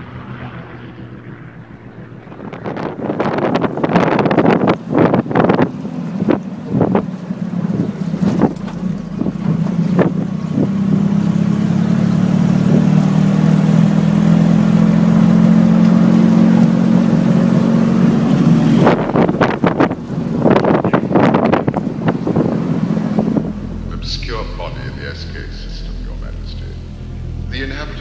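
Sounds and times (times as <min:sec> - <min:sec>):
low motor hum: 0:00.0 - 0:28.0
wind buffeting microphone: 0:00.0 - 0:28.0.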